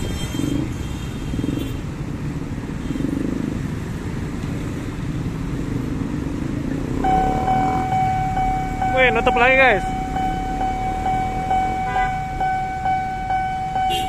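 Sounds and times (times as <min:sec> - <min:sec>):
motorcycles and scooters passing: 0:01.4 - 0:14.0.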